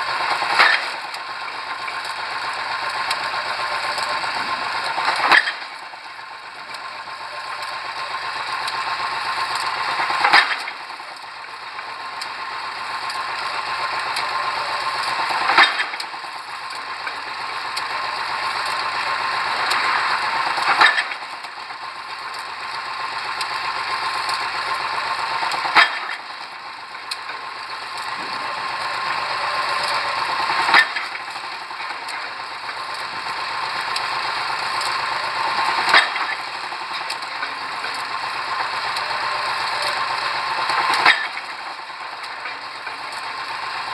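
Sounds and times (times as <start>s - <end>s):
mechanical clatter: 0.0s - 43.9s.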